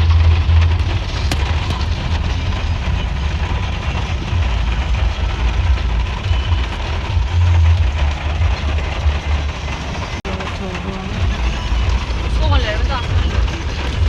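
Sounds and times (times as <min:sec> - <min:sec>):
road noise: 0:00.0 - 0:14.0
vehicle rumbling: 0:00.0 - 0:14.0.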